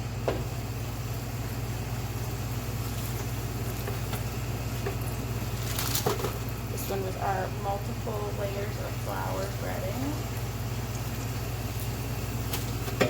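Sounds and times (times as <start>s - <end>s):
chicken sizzling in hot oil: 0.0s - 13.0s
constant low hum: 0.0s - 13.0s
faint oil crackles: 0.4s - 13.0s.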